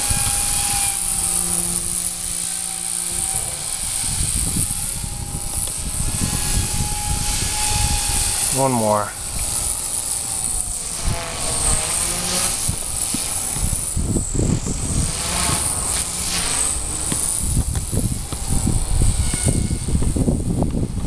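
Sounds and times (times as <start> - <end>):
rc helicopter motor whine: 0.0 - 21.0
wind buffeting microphone: 0.0 - 21.0.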